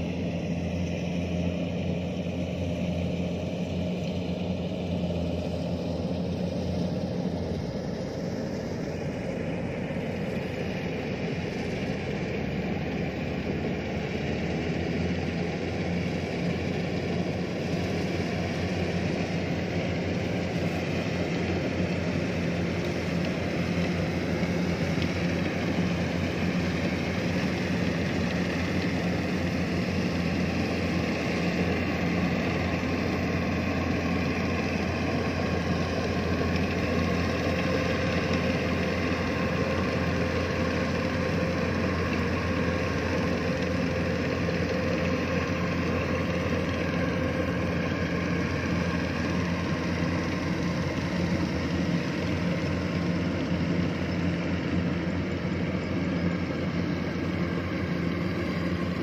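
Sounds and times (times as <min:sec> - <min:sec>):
combine harvester engine droning: 0:00.0 - 0:59.0.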